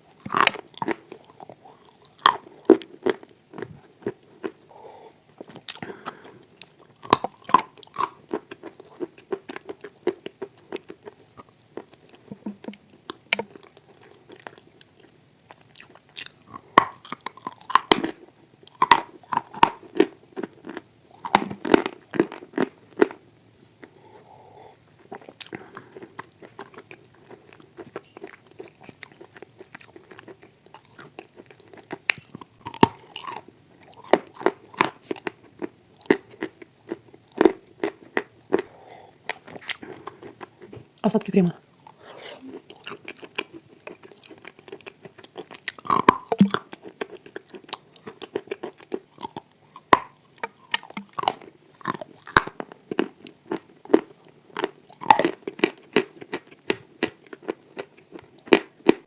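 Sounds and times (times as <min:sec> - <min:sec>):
soft wet chewing: 0:00.0 - 0:59.0.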